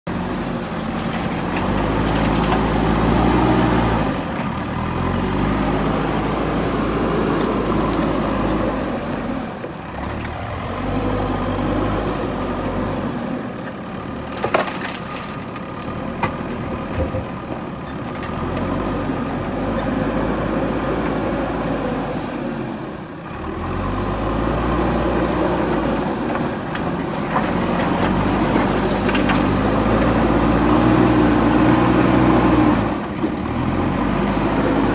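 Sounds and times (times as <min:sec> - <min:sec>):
diesel engine revving: 0:00.1 - 0:14.3, 0:18.2 - 0:34.9.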